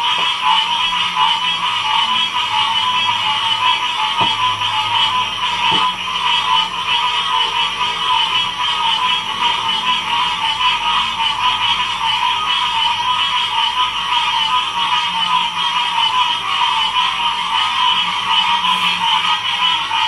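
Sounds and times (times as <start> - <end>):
frog chorus: 0.0 - 20.0.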